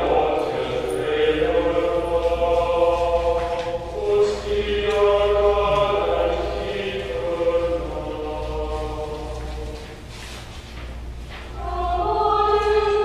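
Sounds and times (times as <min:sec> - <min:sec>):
congregation singing a chant: 0:00.0 - 0:10.0, 0:11.3 - 0:13.0.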